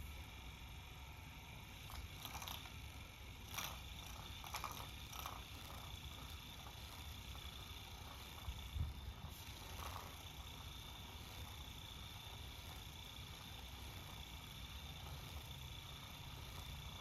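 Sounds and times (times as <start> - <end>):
small motor whirring: 0.0 - 17.0.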